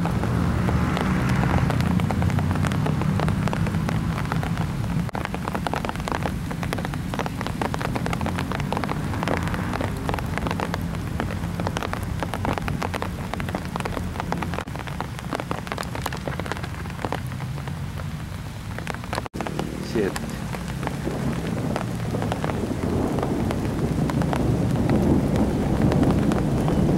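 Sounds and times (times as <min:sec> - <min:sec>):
heavy rain falling: 0:00.0 - 0:26.9
raindrops striking close by: 0:00.0 - 0:26.9.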